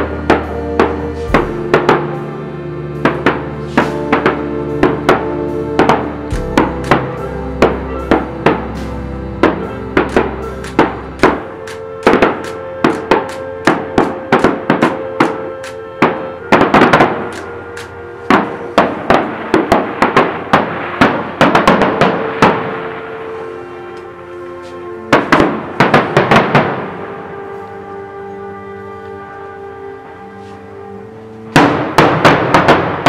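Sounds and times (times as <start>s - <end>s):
fireworks bursting: 0.0s - 24.0s, 24.8s - 27.5s, 31.5s - 33.0s
held musical tones: 0.0s - 33.0s.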